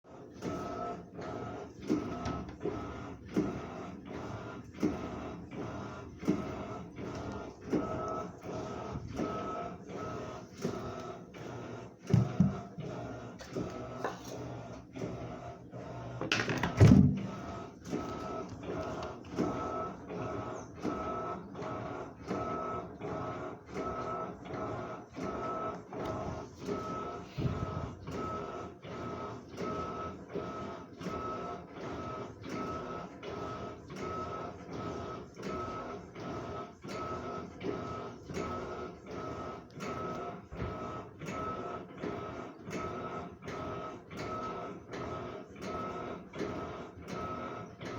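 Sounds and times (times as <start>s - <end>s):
washing machine agitators swishing: 0.0s - 47.9s.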